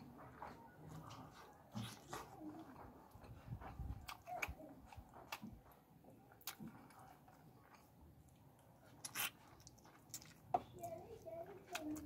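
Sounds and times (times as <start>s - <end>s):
mouth clicks and smacks eating: 0.8s - 12.0s.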